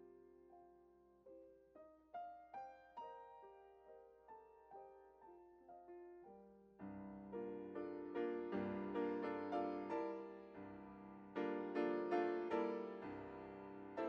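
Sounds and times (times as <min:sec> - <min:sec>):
piano music: 0:01.3 - 0:14.0.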